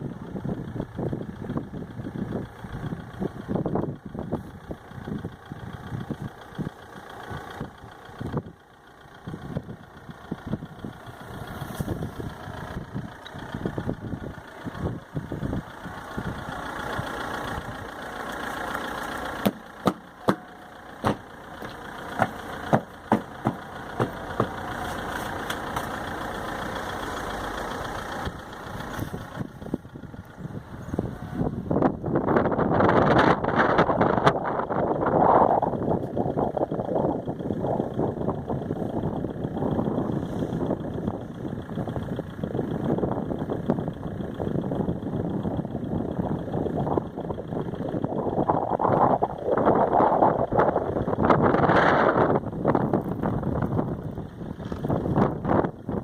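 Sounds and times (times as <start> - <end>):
blizzard wind buffeting microphone: 0.0 - 18.6, 21.0 - 56.0.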